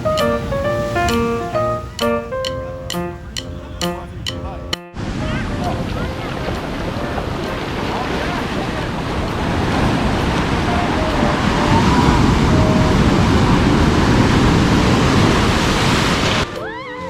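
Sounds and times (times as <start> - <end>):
wind rumbling on microphone: 0.0 - 16.6
ocean surf breaking on shore: 0.0 - 17.0.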